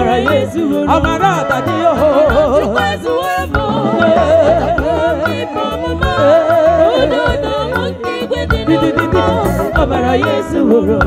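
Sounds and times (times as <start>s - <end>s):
live band with bass and drums: 0.0s - 11.0s
women singing with vibrato: 0.0s - 11.0s.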